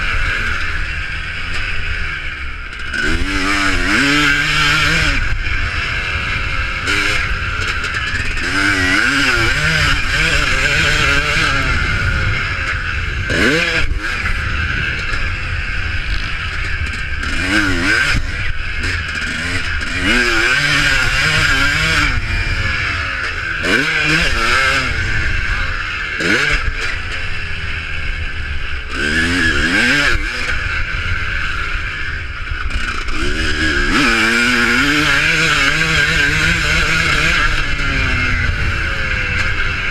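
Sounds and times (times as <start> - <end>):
constant engine rumble: 0.0 - 39.9
motorcycle engines revving: 0.0 - 39.9.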